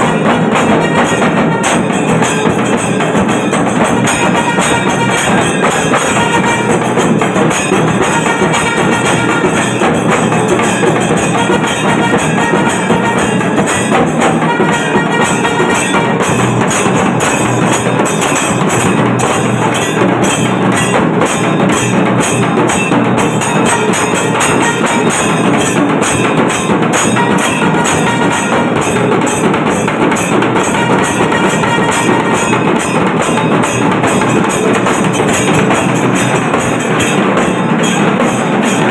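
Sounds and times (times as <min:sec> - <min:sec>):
drums: 0:00.0 - 0:38.9
jingling metal percussion: 0:00.0 - 0:38.9.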